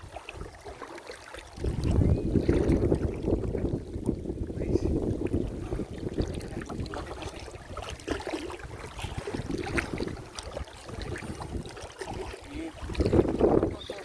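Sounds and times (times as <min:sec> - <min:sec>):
water sloshing and splashing: 0:00.0 - 0:14.0
wind buffeting microphone: 0:01.5 - 0:14.0.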